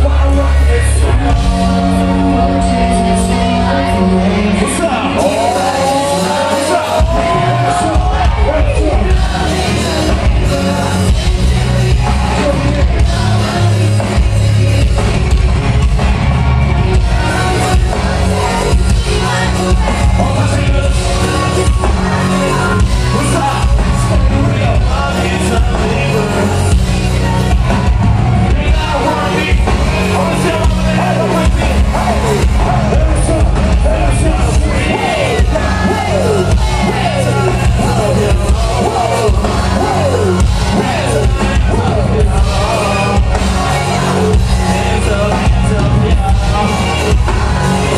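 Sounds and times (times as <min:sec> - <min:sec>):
rap song over loudspeakers: 0:00.0 - 0:16.1, 0:16.8 - 0:47.9.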